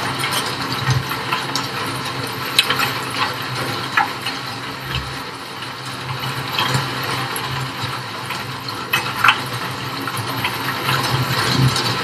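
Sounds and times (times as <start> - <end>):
rain falling on wet street: 0.0 - 12.0.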